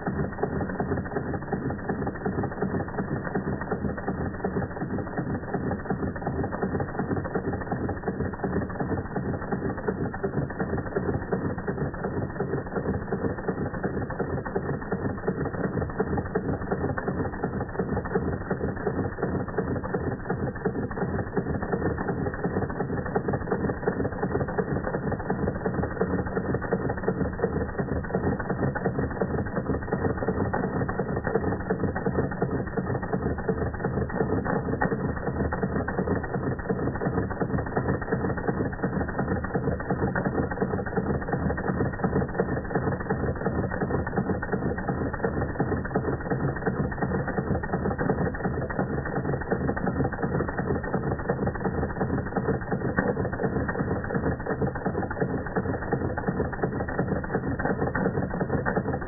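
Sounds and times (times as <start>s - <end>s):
toy steam engine clatter: 0.0s - 59.0s.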